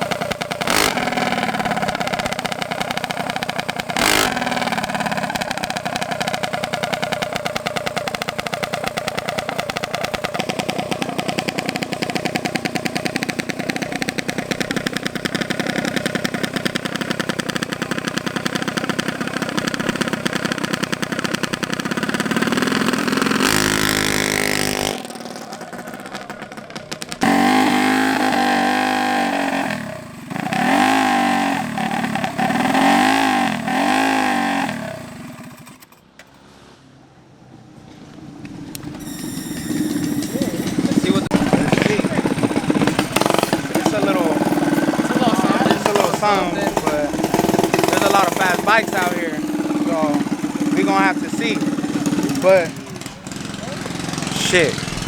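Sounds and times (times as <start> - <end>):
small gas engine running: 0.0 - 36.4, 38.7 - 55.0.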